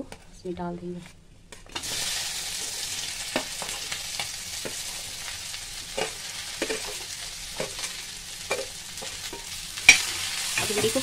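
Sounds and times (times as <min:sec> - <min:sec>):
okra sizzling in hot oil: 0:01.8 - 0:11.0.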